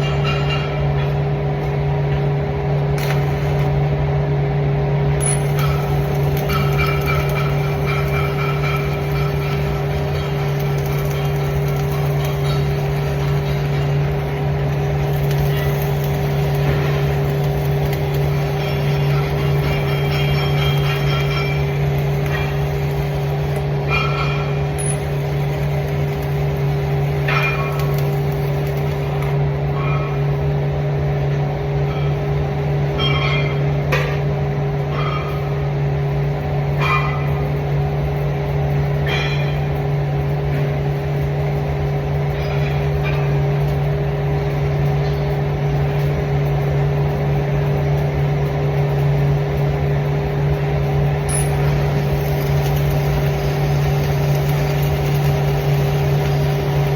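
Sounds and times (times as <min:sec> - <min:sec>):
machine hum with low drone: 0:00.0 - 0:56.9.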